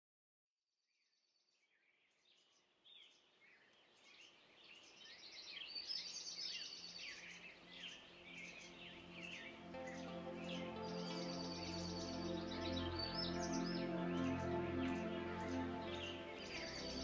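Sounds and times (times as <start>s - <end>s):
small birds chirping: 2.1s - 17.0s.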